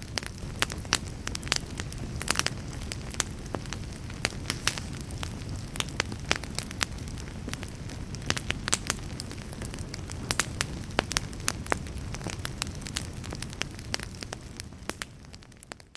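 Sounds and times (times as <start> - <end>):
campfire crackling: 0.0 - 15.9
flames rumbling: 0.0 - 15.9.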